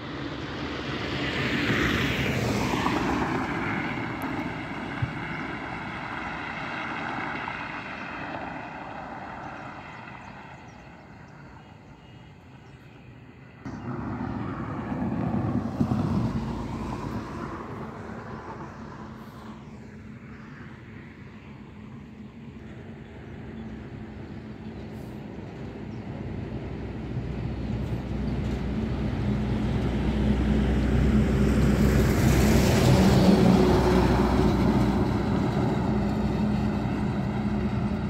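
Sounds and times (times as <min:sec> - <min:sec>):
vehicles passing at speed: 0:00.0 - 0:38.0.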